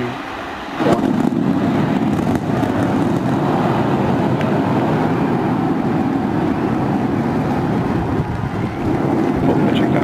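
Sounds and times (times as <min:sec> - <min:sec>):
rocket engines low rumble: 0:00.0 - 0:10.0.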